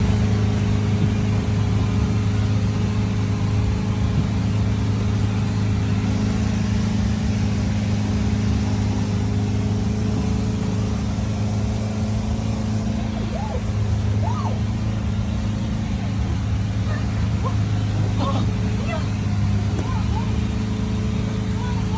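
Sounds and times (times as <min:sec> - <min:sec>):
boat engine droning: 0:00.0 - 0:21.9.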